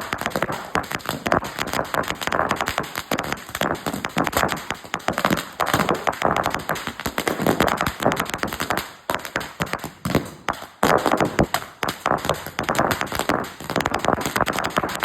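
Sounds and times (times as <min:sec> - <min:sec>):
string of firecrackers banging: 0:00.0 - 0:15.0.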